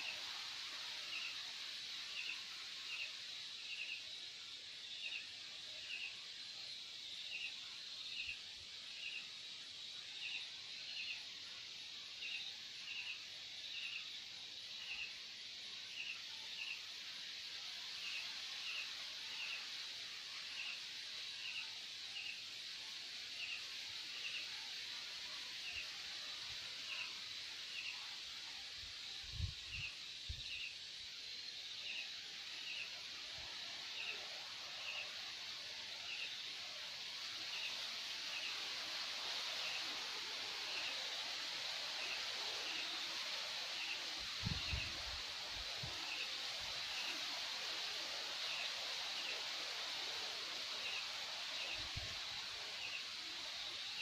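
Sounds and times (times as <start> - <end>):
crickets trilling: 0.0 - 54.0
nearby cricket chirping: 0.0 - 54.0.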